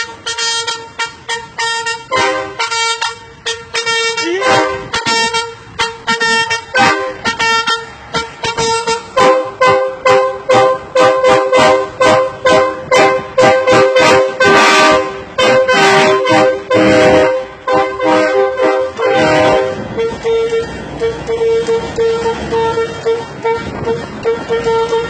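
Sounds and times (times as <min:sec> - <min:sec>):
truck horn honking a tune: 0:00.0 - 0:25.0.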